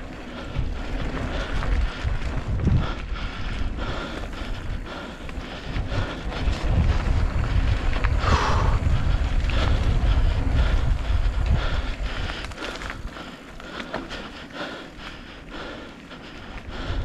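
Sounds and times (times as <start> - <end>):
mountain bike rumbling on dirt: 0.0 - 17.0
wind buffeting microphone: 0.0 - 17.0.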